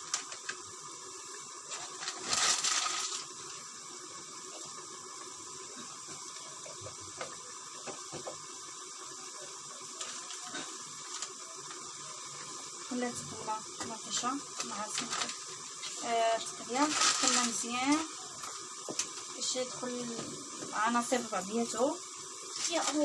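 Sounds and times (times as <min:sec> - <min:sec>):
stew cooking hiss: 0:00.0 - 0:23.0.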